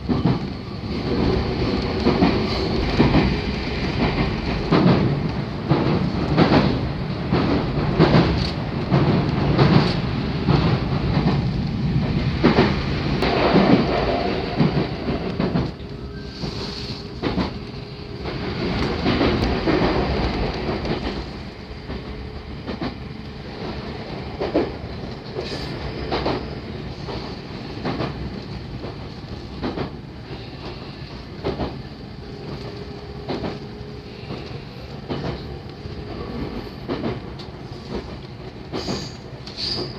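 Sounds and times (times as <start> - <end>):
train rumbling from inside: 0.0 - 39.9.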